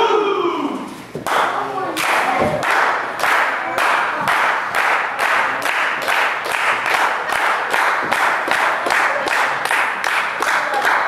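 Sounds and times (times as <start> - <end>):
crowd clapping in unison: 1.2 - 11.0.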